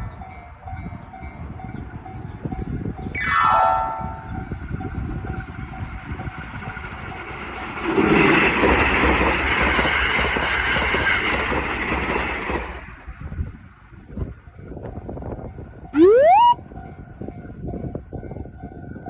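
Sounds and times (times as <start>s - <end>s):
electric train passing at speed: 0.0s - 19.0s.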